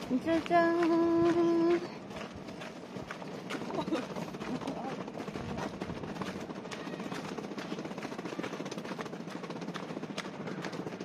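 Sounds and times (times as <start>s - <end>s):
footsteps on a paved path: 0.0s - 11.0s
outdoor background noise: 0.0s - 11.0s.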